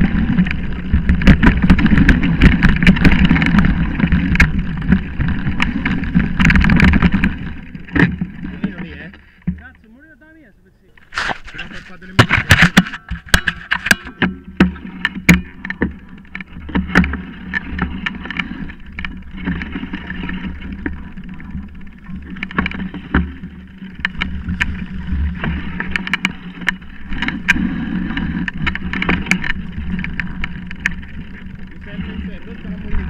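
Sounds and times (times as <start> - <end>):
bike clacking and rattling: 0.0 - 9.7, 10.9 - 33.0
bike tyres rumbling on dirt: 0.0 - 10.1, 11.0 - 33.0.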